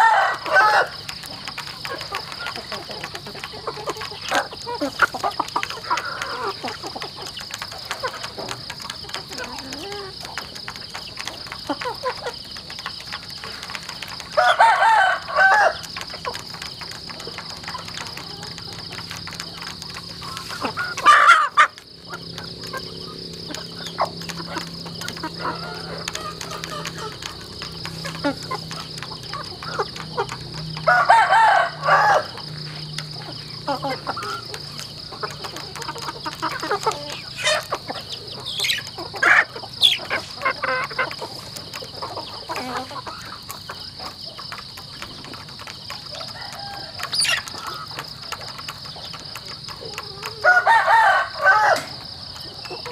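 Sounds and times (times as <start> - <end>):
beaks pecking plastic trough: 0.0 - 52.9
hens clucking: 0.0 - 52.9
roosters crowing: 0.0 - 52.9.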